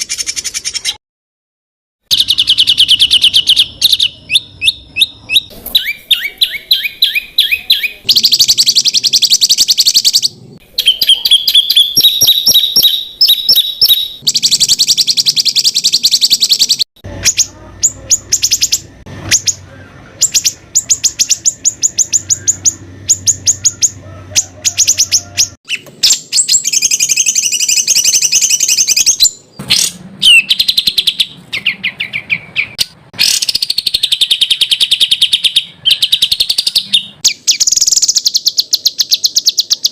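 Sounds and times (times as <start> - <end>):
songbird singing rapid trills: 2.1 - 29.4, 30.2 - 39.9.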